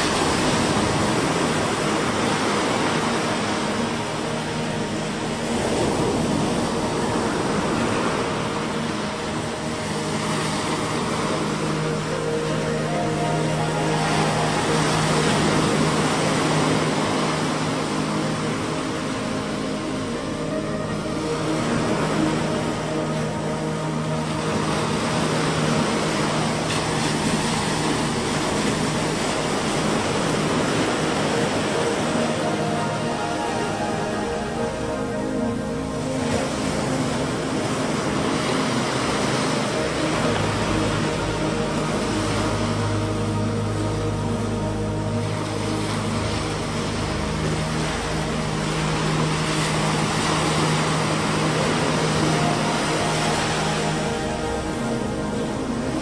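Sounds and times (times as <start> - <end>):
low steady hum: 0.0 - 56.0
sea waves washing on shore: 0.0 - 56.0.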